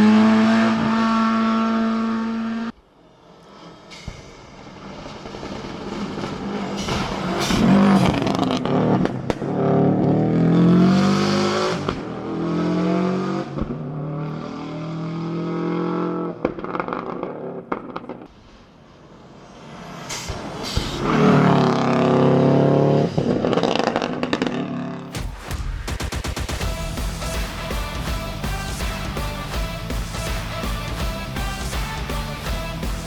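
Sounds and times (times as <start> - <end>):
rally car engine at full throttle: 0.0 - 25.3, 26.0 - 33.0.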